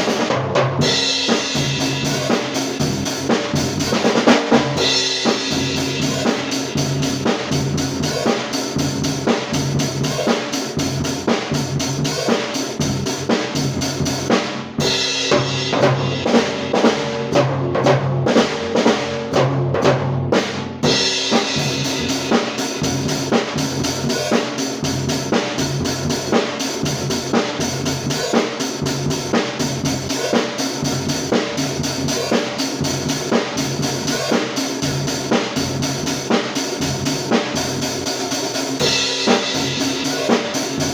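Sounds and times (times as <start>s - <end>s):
bright cymbals: 0.0s - 17.2s, 20.9s - 40.9s
drum kit playing rock beat: 0.0s - 40.9s.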